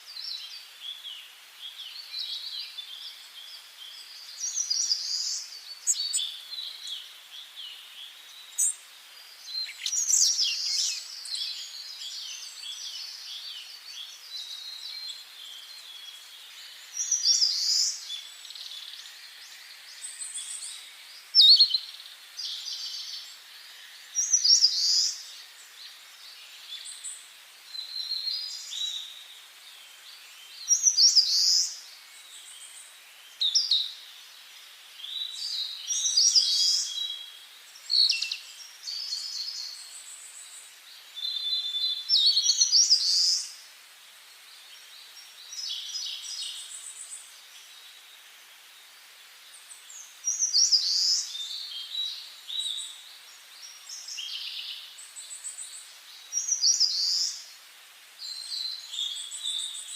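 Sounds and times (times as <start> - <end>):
faint background hiss: 0.0 - 59.9
songbirds chirping and trilling: 0.0 - 59.9.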